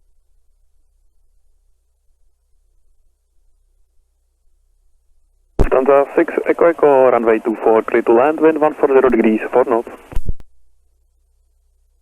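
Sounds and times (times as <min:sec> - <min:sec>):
faint radio hiss: 0:00.0 - 0:12.0
low hum: 0:00.0 - 0:12.0.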